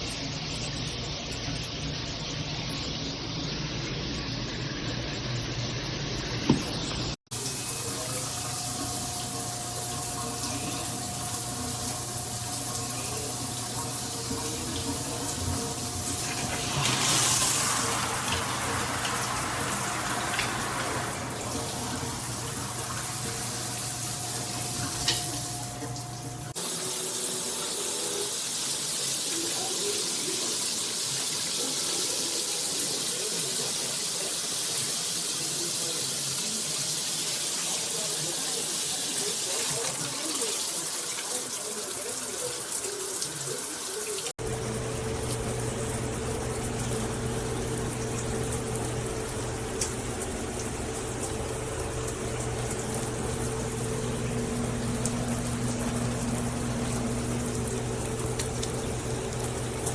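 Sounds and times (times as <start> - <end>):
shower spraying water: 0.0 - 59.9.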